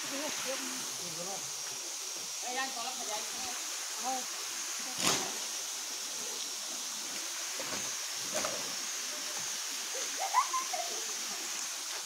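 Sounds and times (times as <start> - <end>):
stream water over rocks: 0.0 - 12.0.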